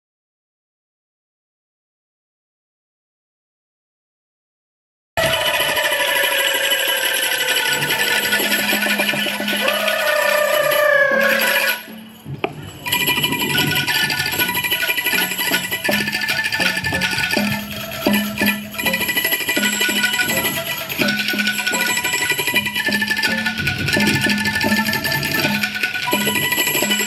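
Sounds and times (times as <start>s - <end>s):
bamboo percussion music: 5.2s - 27.0s.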